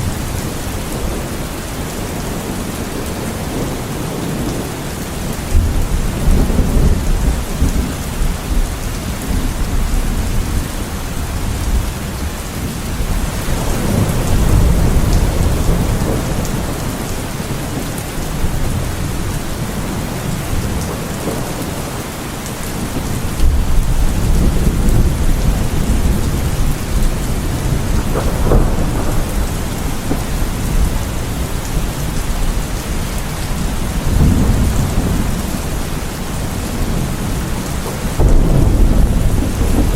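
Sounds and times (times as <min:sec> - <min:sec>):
heavy rain falling: 0:00.0 - 0:39.9
low rolling thunder: 0:00.0 - 0:39.9.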